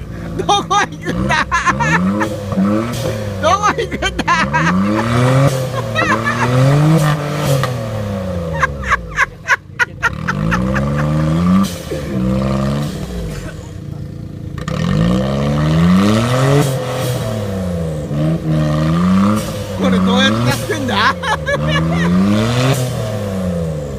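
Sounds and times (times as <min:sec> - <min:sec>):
off-road vehicle engine revving: 0:00.0 - 0:23.9.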